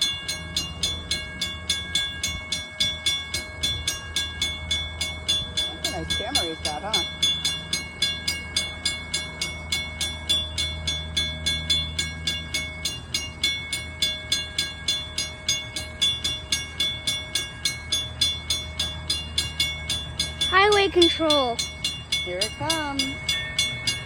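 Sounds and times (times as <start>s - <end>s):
railroad bell ringing: 0.0s - 24.0s.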